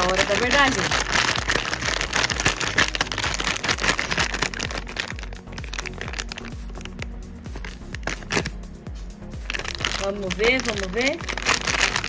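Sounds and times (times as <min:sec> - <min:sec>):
plastic packaging crinkling: 0:00.0 - 0:08.6, 0:09.4 - 0:12.0
background music: 0:00.0 - 0:12.0.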